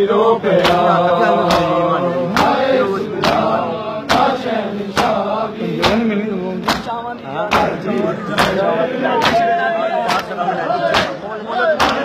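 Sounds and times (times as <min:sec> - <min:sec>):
men chanting together: 0:00.0 - 0:12.0
crowd beating chests: 0:00.6 - 0:12.0.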